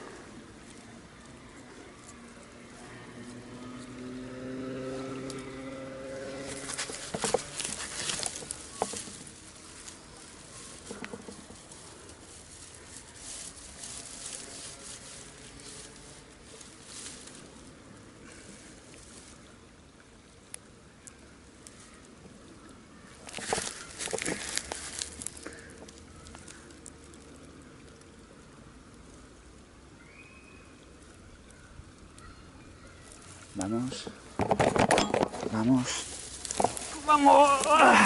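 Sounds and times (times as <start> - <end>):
dry grass rustling and crackling: 0.0 - 38.0.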